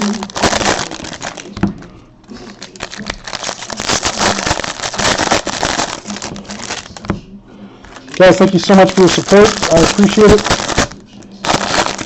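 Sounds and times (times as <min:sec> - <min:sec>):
plastic packaging crinkling: 0:00.0 - 0:07.2, 0:07.8 - 0:12.0
faint voices: 0:00.0 - 0:12.0.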